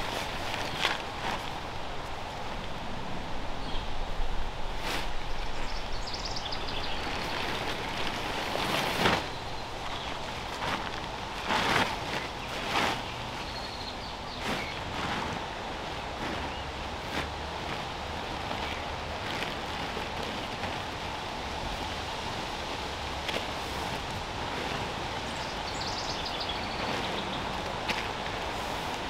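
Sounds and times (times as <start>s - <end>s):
tent fabric rustling and swishing: 0.0s - 2.7s, 3.6s - 29.0s
outdoor background hiss: 0.0s - 29.0s.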